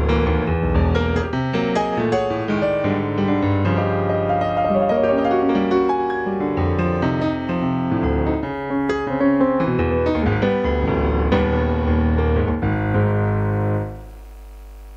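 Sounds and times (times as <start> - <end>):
piano chords over bass notes: 0.0 - 14.2.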